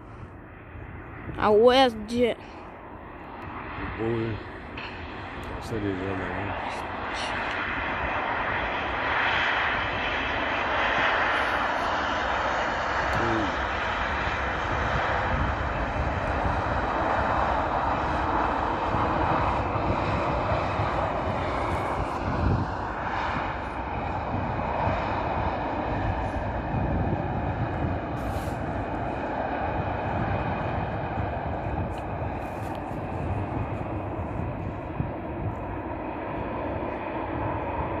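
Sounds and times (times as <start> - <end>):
faint engine whine: 0.0 - 38.0
jet engines roaring: 0.0 - 38.0.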